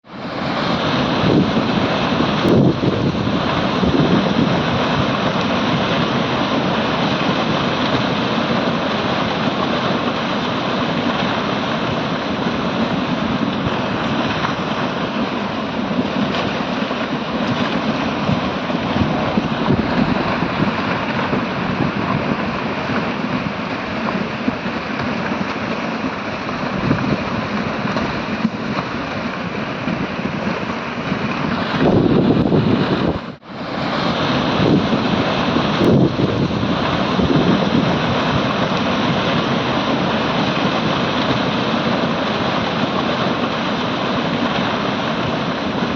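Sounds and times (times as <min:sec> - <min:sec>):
muddy water rushing with stones: 0:00.0 - 0:45.9
wind buffeting microphone: 0:00.2 - 0:45.9.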